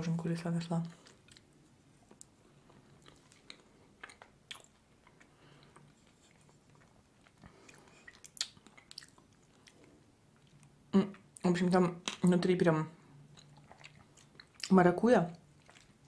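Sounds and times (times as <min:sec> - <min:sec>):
soft chewing: 0:00.7 - 0:11.5, 0:13.0 - 0:16.0.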